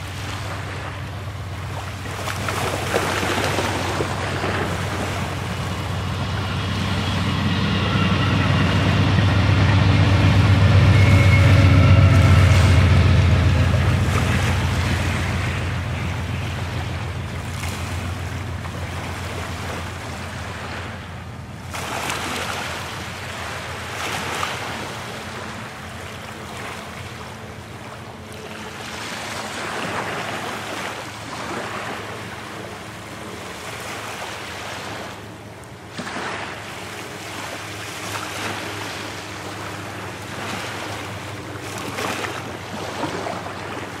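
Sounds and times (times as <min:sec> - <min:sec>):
small waves breaking ashore: 0:00.0 - 0:44.0.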